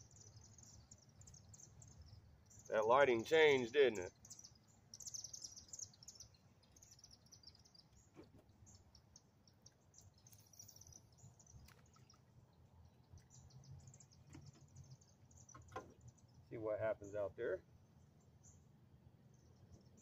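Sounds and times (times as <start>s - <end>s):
insects and birds chirping: 0.0s - 20.0s
low steady background rumble: 0.0s - 20.0s.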